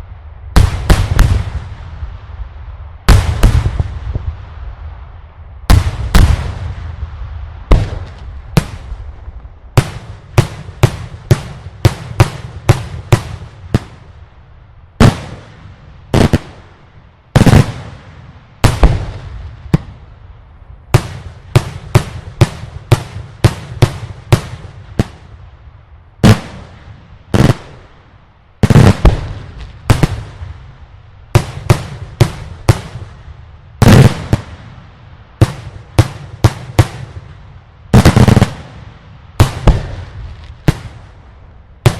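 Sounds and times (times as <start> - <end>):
fireworks exploding: 0.5 - 2.4, 3.0 - 4.6, 5.7 - 14.3, 15.0 - 25.6, 26.2 - 41.9.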